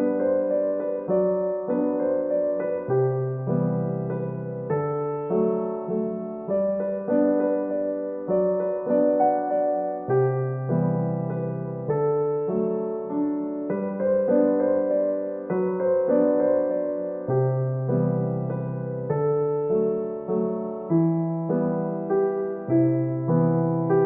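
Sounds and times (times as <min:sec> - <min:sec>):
slow piano piece: 0:00.0 - 0:24.0.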